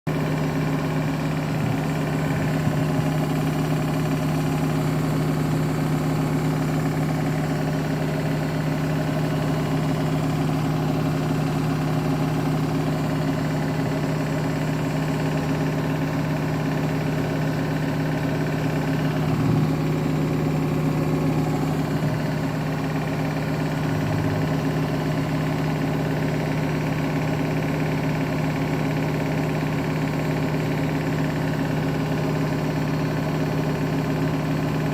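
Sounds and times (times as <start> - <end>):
washing machine spinning: 0.1 - 34.9.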